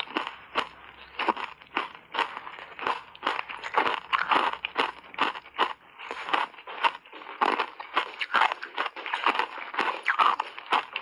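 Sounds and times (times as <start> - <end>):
ice being chewed crunching: 0.0 - 11.0.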